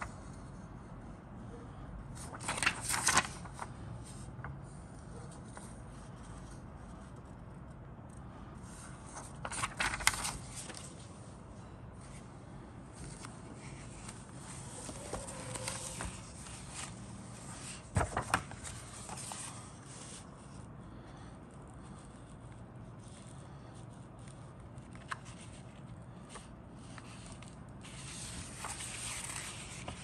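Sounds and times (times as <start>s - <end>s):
paper rustling: 2.2s - 7.2s, 8.6s - 12.3s, 12.9s - 20.6s, 21.8s - 30.0s.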